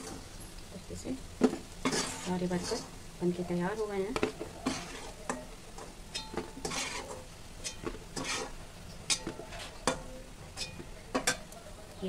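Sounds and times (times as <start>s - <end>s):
dough balls sizzling in hot oil: 0.0s - 12.0s
slotted spoon scraping a pan: 1.5s - 11.5s.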